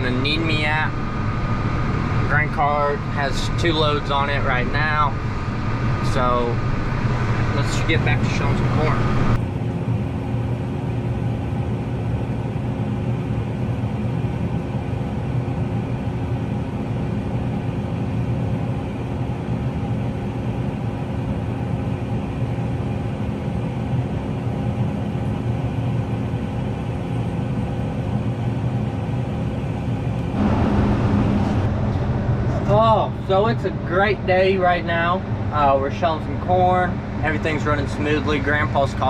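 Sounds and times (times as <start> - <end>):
tractor engine drone: 0.0 - 39.0.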